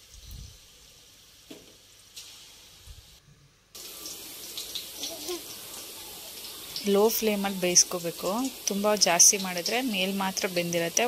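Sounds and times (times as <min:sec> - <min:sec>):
meat balls sizzling in oil: 0:00.0 - 0:03.2, 0:03.8 - 0:11.0.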